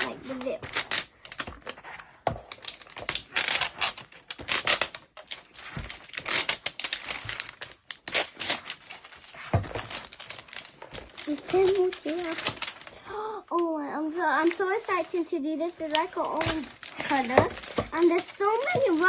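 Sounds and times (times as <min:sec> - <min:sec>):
plastic wrapping crinkling and tearing: 0:00.0 - 0:19.0.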